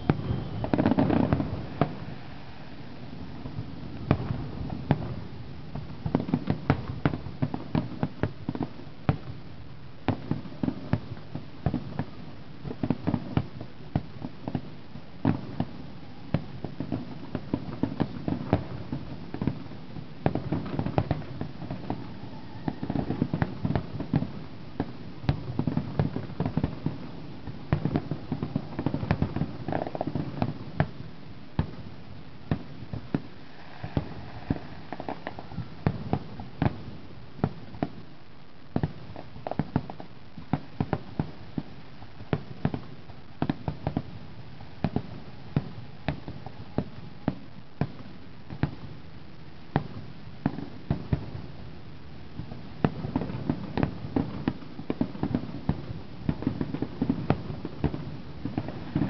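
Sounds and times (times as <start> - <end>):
firework bangs: 0.0 - 59.0.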